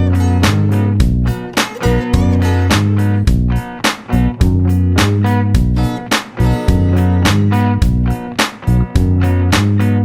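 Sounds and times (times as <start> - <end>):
strummed guitar music with beat: 0.0 - 10.0.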